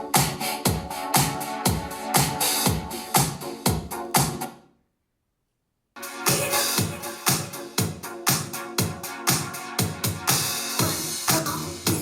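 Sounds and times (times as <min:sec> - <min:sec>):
kick drum beat: 0:00.0 - 0:04.4, 0:06.3 - 0:12.0
electronic dance music: 0:00.0 - 0:04.6, 0:06.0 - 0:12.0.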